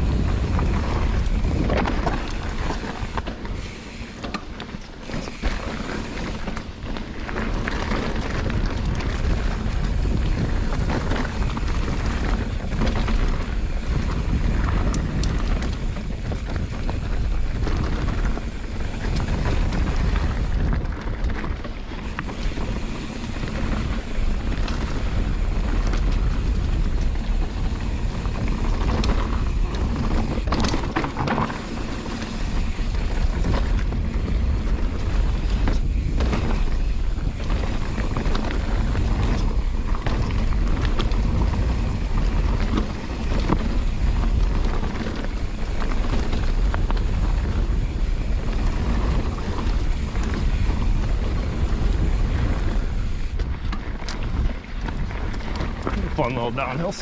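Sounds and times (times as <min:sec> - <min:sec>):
wind buffeting microphone: 0:00.0 - 0:04.4, 0:05.0 - 0:57.0
bike clicks and rattles: 0:00.0 - 0:57.0
tyres rumbling over dirt: 0:00.0 - 0:57.0.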